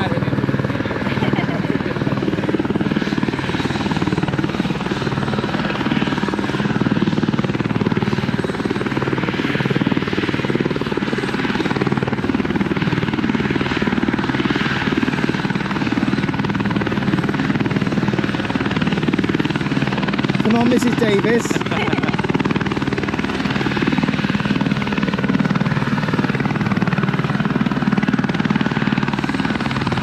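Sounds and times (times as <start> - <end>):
helicopter rotor chop: 0.0 - 30.0.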